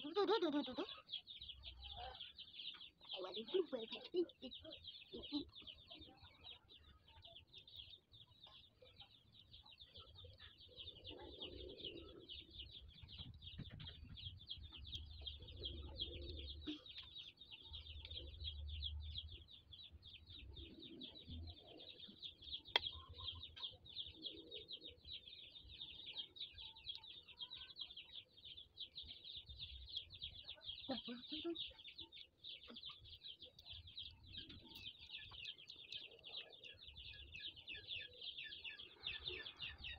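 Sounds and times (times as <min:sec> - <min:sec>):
birds chirring: 0:00.0 - 0:39.9.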